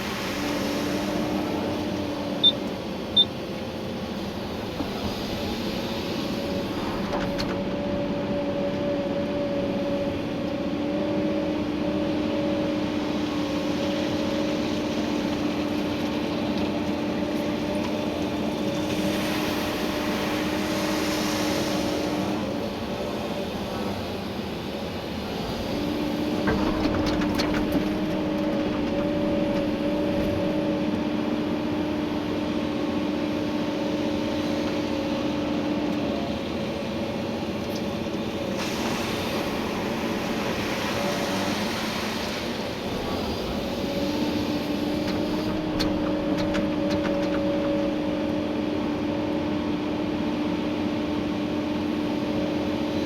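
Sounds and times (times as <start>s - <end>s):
excavator engine and hydraulics whine: 0.0s - 53.0s.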